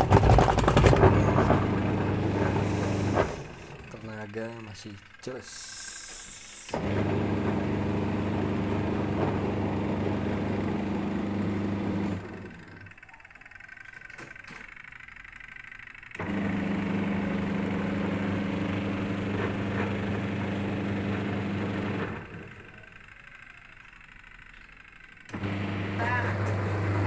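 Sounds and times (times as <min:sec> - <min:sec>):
spin-dryer motor humming: 0:00.0 - 0:13.8, 0:16.0 - 0:24.1, 0:25.0 - 0:27.0.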